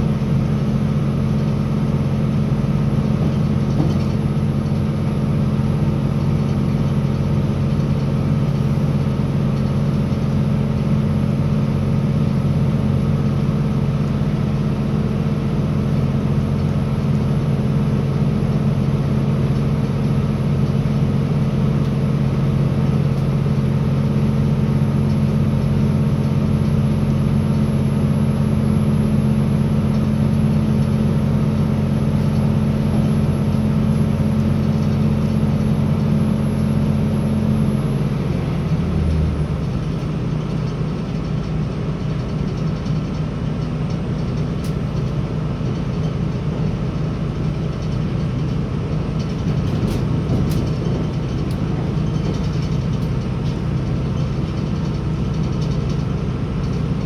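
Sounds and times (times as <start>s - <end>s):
diesel engine hum: 0.0s - 57.0s
train rolling rumble: 0.0s - 57.0s.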